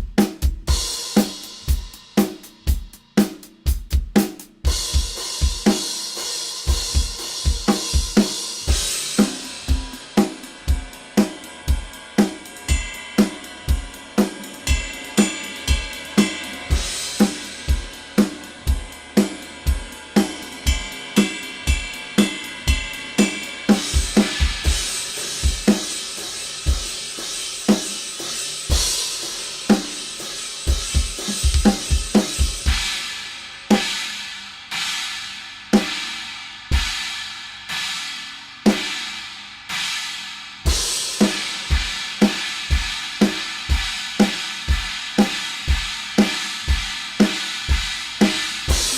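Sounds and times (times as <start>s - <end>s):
ringing cymbal wash: 0.0s - 3.4s, 4.7s - 48.9s
kick and snare drum beat: 0.0s - 33.0s, 40.7s - 48.9s
cymbal crashes: 4.7s - 48.9s.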